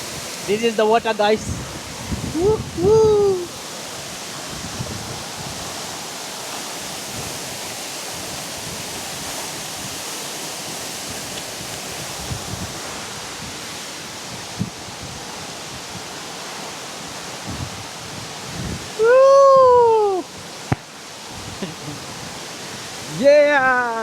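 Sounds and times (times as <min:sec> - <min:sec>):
waterfall rushing onto rock: 0:00.0 - 0:24.0.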